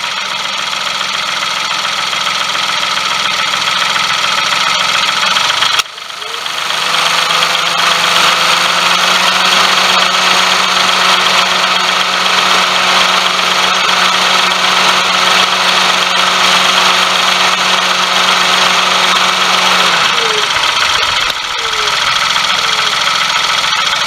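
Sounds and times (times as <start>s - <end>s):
car engine humming: 0.0s - 24.0s
loud pulley bearing whirring: 0.0s - 24.0s.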